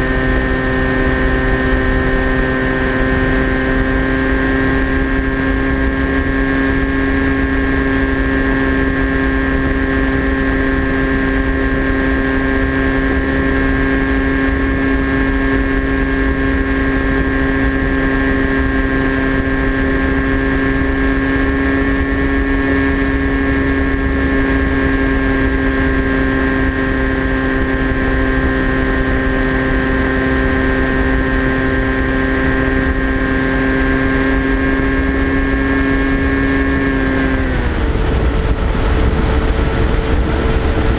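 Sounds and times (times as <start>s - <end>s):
electric motor propeller whine: 0.0s - 40.9s
wind buffeting camera: 0.0s - 40.9s.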